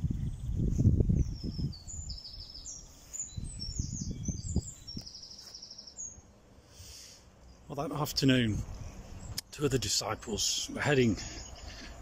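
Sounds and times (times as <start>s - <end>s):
small birds chirping and singing: 0.0s - 12.0s.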